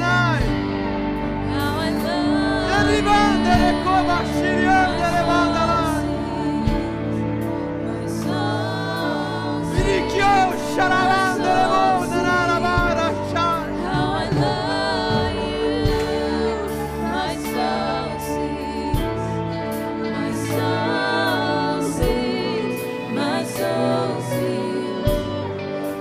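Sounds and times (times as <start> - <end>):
keyboard chords: 0.0 - 26.0
voices singing gospel song: 0.0 - 26.0.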